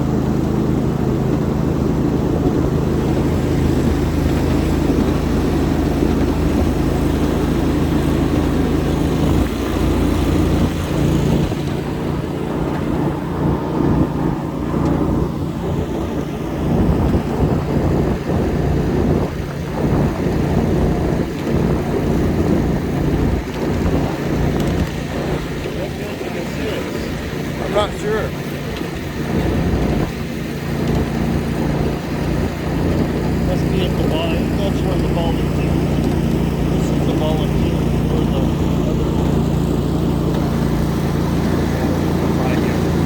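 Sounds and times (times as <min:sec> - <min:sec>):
wheel noise with clicks and knocks: 0:00.1 - 0:27.6, 0:28.2 - 0:43.0.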